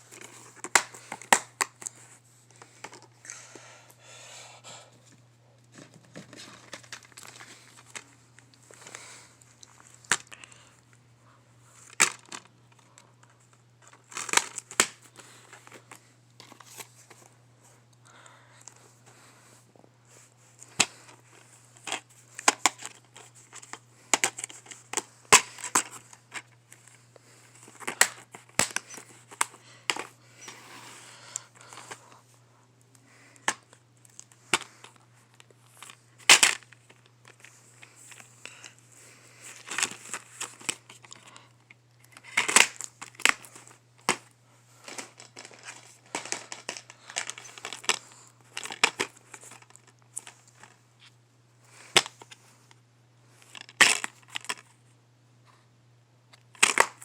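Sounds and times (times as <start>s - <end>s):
steady low hum: 0.0s - 56.3s.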